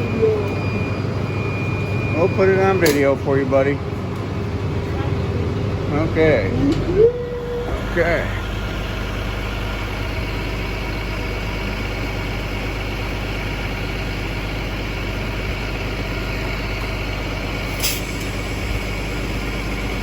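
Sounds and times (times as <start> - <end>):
bus engine rumbling: 0.0 - 20.0
road noise: 0.0 - 20.0.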